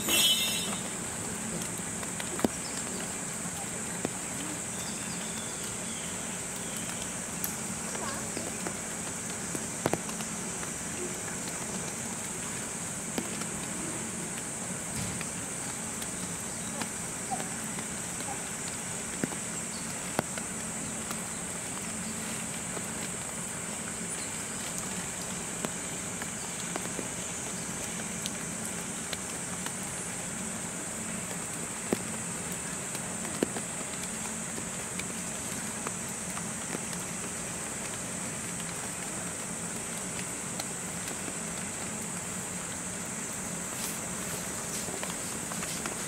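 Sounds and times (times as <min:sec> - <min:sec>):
light rain hiss: 0:00.0 - 0:46.0
raindrops tapping: 0:00.0 - 0:46.0.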